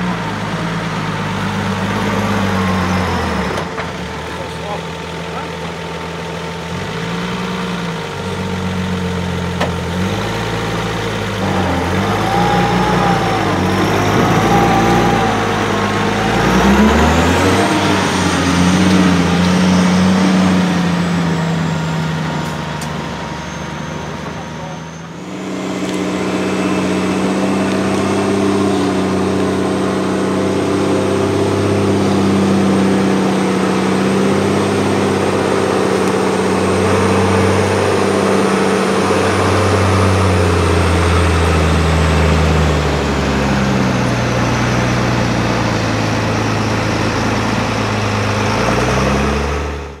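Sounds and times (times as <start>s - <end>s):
vehicle engine at varying revs: 0.0s - 50.0s.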